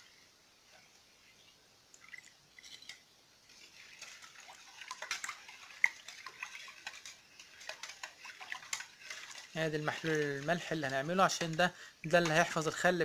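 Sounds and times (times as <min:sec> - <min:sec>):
liquid swishing: 0:01.9 - 0:13.0.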